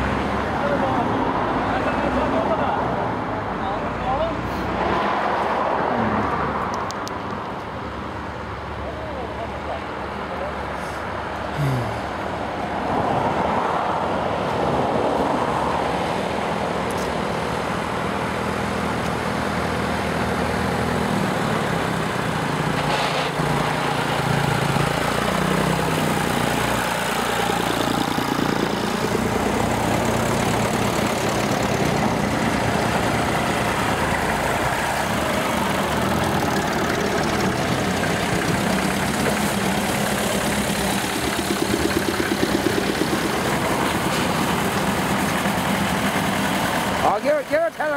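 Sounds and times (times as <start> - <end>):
tractor engines driving past: 0.0 - 47.9.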